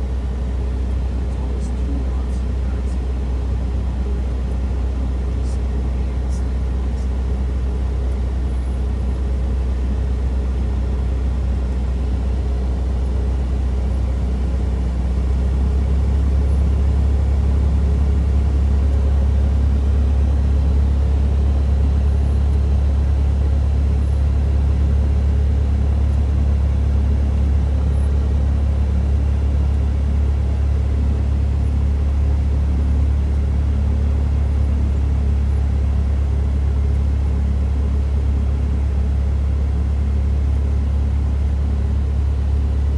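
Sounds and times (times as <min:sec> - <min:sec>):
airplane engine droning in cabin: 0:00.0 - 0:42.9.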